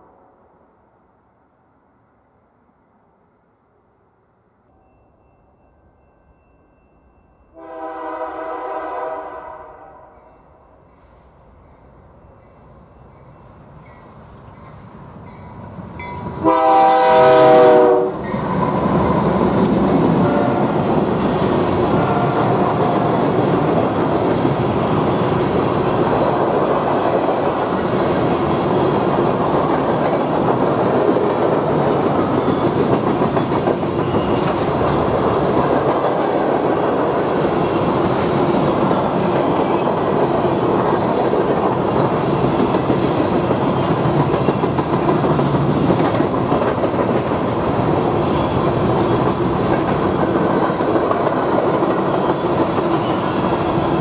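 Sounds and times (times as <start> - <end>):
train wheels on rails: 10.8 - 54.0.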